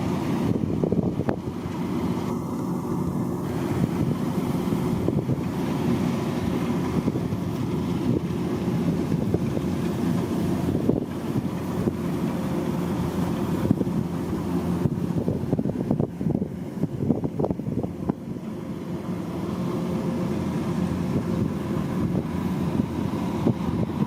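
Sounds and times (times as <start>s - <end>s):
wind noise on microphone: 0.0s - 18.7s, 20.2s - 24.0s
harvesting machine engine running: 0.0s - 24.0s.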